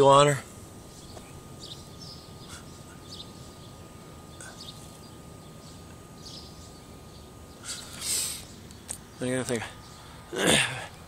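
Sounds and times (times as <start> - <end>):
faint outdoor background noise: 0.0 - 11.0
high bird chirps: 0.9 - 10.2.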